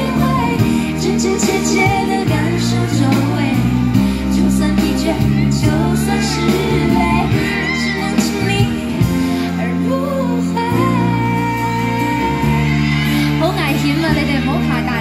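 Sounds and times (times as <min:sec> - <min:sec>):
held bass notes: 0:00.0 - 0:15.0
pop song over speakers: 0:00.0 - 0:15.0
woman singing: 0:00.0 - 0:15.0.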